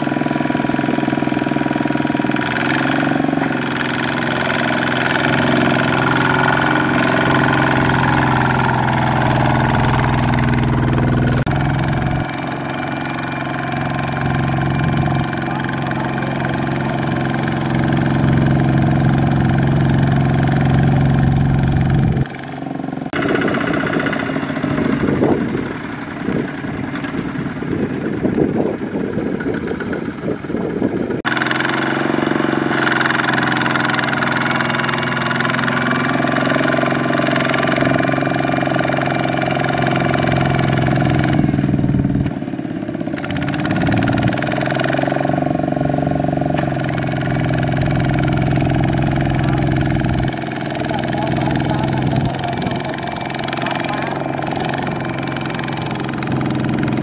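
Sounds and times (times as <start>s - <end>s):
diesel tractor engine: 0.0s - 57.0s.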